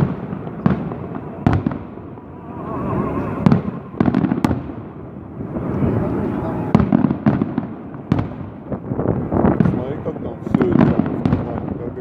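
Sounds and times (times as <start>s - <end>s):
low rumble of distant fireworks: 0.0s - 12.0s
sharp fireworks bangs: 0.0s - 12.0s.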